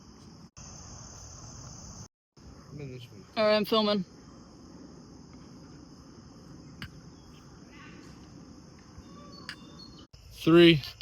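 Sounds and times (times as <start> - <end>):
faint crickets chirring: 0.0 - 11.0.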